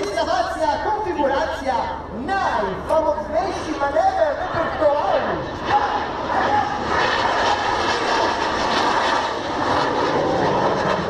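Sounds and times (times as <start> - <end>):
jet engine flying past: 0.0 - 11.0.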